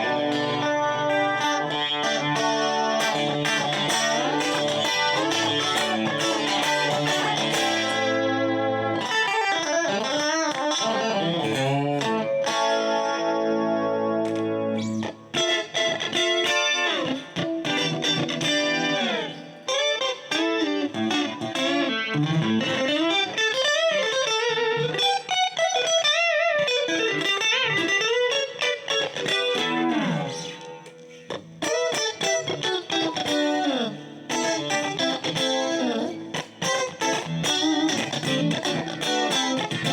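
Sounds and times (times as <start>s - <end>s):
clean electric guitar playing: 0.0s - 39.9s.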